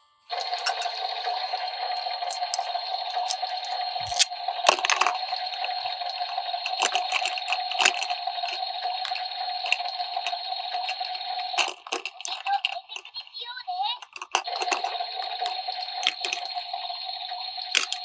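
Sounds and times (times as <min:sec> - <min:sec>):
toy speaker watery hissing effect: 0:00.3 - 0:18.0
plastic toy pieces clicking: 0:00.4 - 0:13.3, 0:13.9 - 0:16.8, 0:17.6 - 0:18.0.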